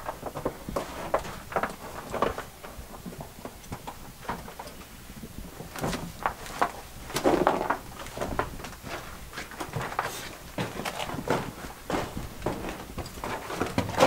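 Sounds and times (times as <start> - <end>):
footsteps crunching over loose rock: 0.0 - 4.6, 5.4 - 14.0.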